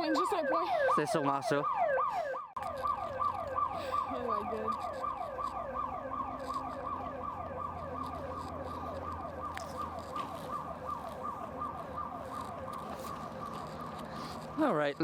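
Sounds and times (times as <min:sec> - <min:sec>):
security alarm siren wailing: 0:00.0 - 0:14.9.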